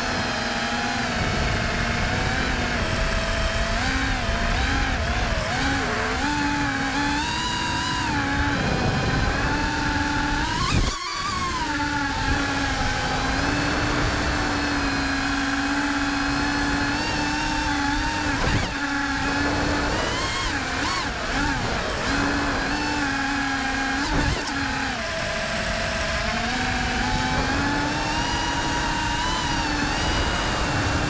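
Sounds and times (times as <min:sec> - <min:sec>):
drone motors whining: 0:00.0 - 0:31.0
wind noise: 0:00.0 - 0:31.0.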